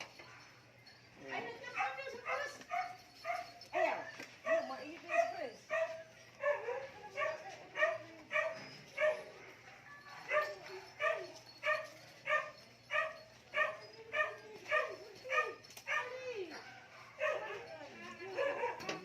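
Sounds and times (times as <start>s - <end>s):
small dog barking: 1.8s - 17.7s, 18.3s - 19.0s.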